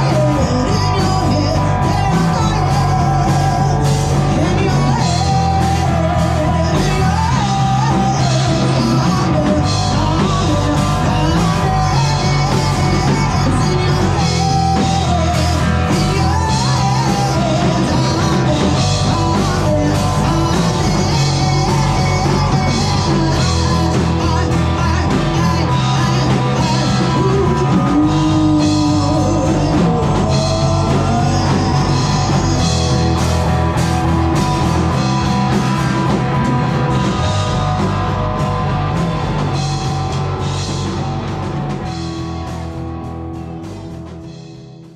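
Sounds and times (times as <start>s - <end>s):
woman singing: 0.0s - 38.0s
drum kit: 0.0s - 44.9s
guitars: 0.0s - 44.9s.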